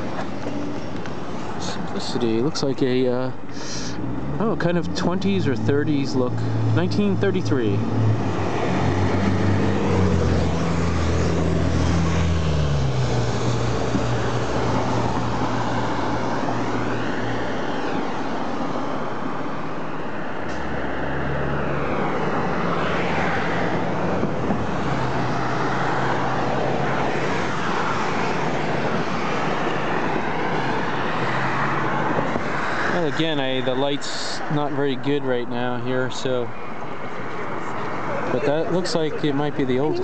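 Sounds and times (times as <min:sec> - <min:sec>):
traffic passing: 0:00.0 - 0:40.0.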